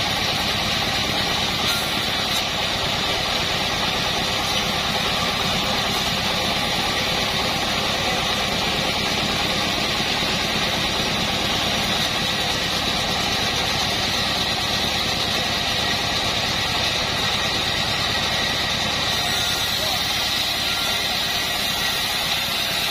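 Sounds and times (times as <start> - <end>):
band sawmill running: 0.0 - 22.9.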